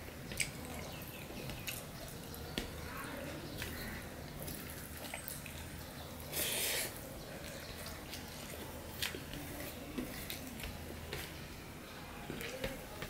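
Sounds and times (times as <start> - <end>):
fingers squishing rice and curry: 0.2 - 11.5.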